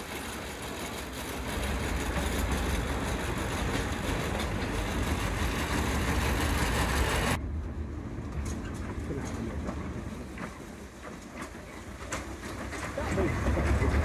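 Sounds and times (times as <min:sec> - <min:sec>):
small locomotive engine rumble: 0:00.0 - 0:14.0.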